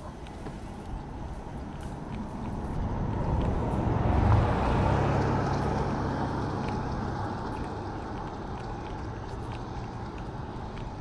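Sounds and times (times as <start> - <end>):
engine hum of passing motor: 0.0 - 11.0.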